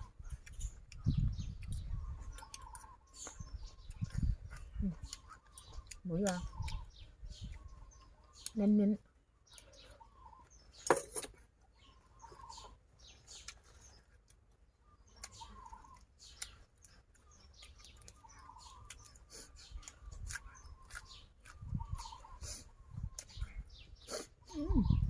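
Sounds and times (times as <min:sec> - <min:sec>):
chewing and crunching: 0:00.0 - 0:24.9.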